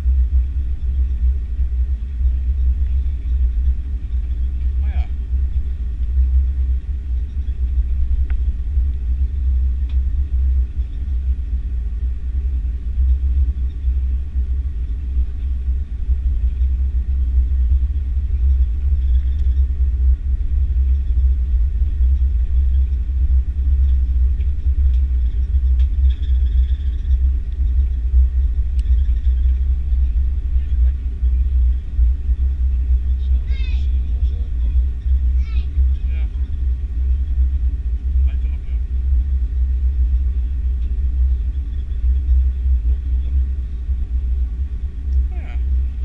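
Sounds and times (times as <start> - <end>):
airplane taxiing rumble: 0.0 - 46.0.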